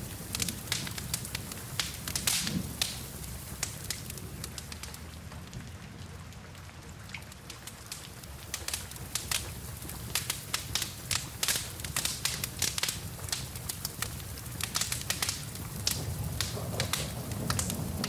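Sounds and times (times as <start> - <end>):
rain hissing: 0.0 - 5.4, 7.6 - 18.0
wood fire crackling: 0.0 - 18.0.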